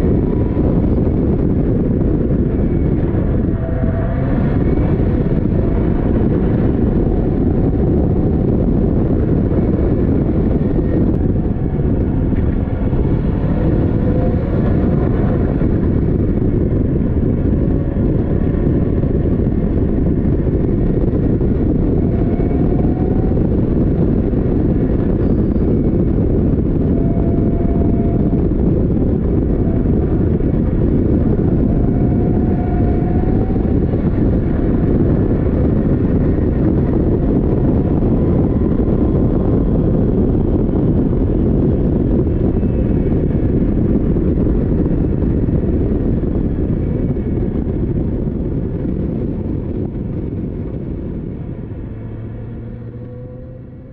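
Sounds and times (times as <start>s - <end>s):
race car engine running: 0.0s - 53.9s
wind buffeting on microphone: 0.0s - 53.9s.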